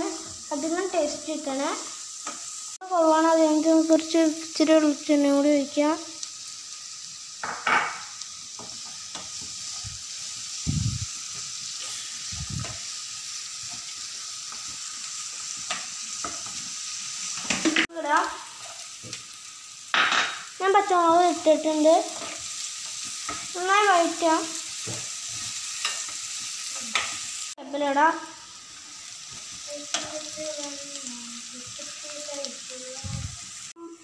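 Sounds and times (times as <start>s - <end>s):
onions sizzling in a pan: 0.0s - 34.0s.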